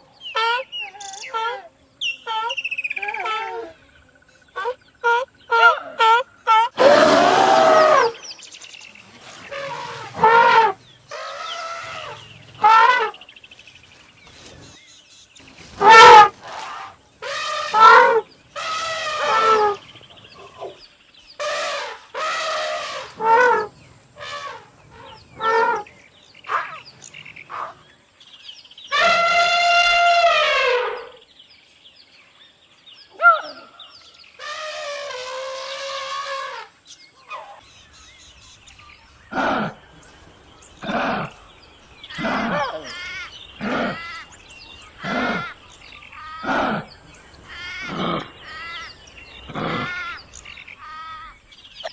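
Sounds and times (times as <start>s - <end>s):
wild animal calls: 0.0s - 8.2s, 9.2s - 13.3s, 15.7s - 20.8s, 21.4s - 27.9s, 33.1s - 51.9s.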